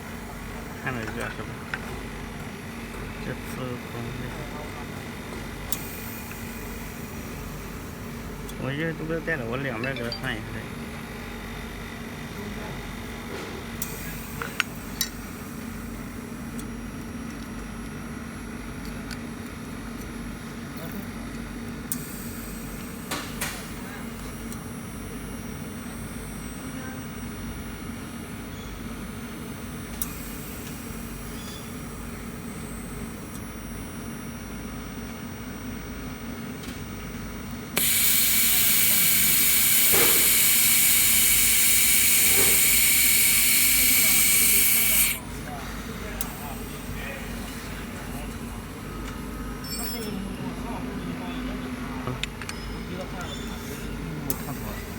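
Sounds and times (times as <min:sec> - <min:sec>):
workshop machinery humming: 0:00.0 - 0:54.9.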